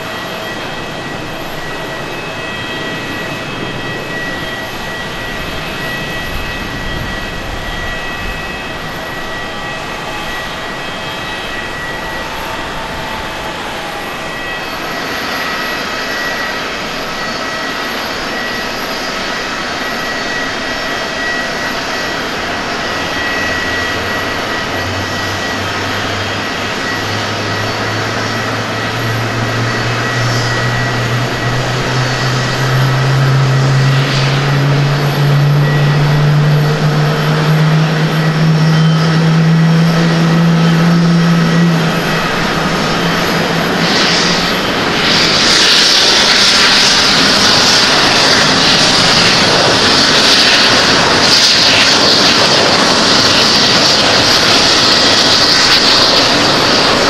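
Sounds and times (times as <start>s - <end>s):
high rushing roar: 0.0s - 57.0s
jet engines hum: 0.0s - 57.0s.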